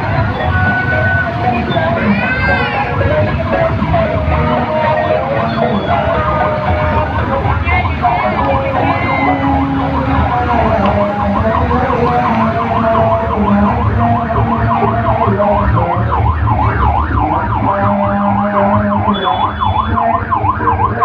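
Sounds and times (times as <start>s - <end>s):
low rumble of vehicle engines: 0.0s - 21.0s
vehicle siren yelping: 0.0s - 21.0s.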